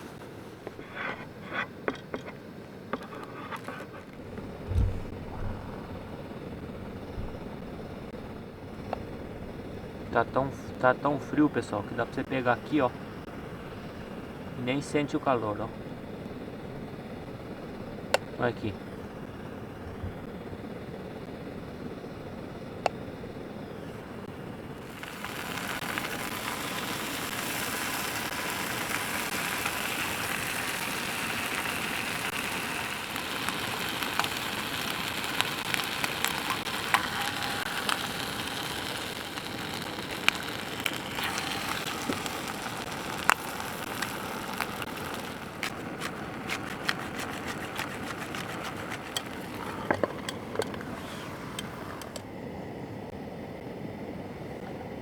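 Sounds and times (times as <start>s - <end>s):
fire crackling and popping: 0.0s - 14.7s, 22.9s - 52.3s
steady hiss: 0.0s - 54.6s.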